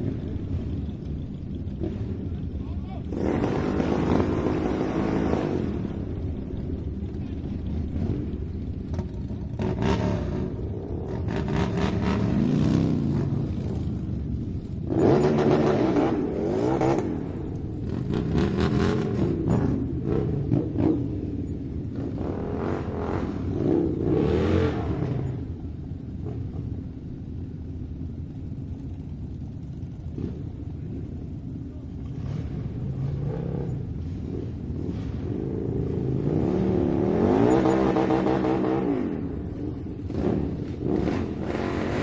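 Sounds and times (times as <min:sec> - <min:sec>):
motorcycle engines revving: 0:00.0 - 0:42.0.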